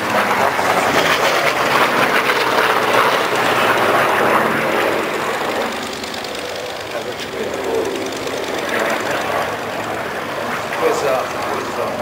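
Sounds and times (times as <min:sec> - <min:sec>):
propeller aircraft engine overhead: 0:00.0 - 0:12.0.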